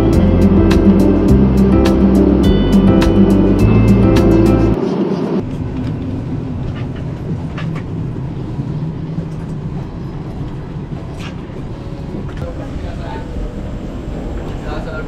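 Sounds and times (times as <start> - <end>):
airplane cabin hum: 0.0 - 15.0.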